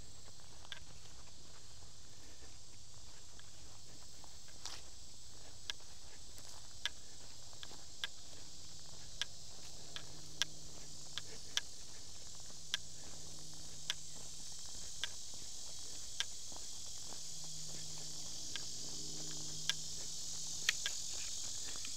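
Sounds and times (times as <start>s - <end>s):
faint low hum: 0.0s - 21.9s
insects chorus: 0.0s - 21.9s.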